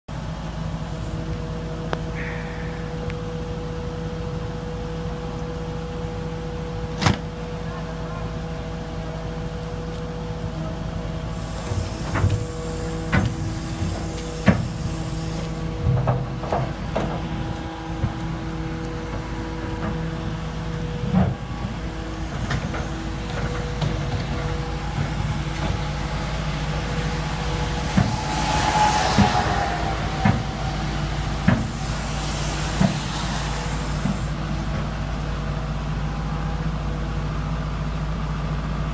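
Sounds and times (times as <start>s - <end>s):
diesel engine humming: 0.1s - 38.9s.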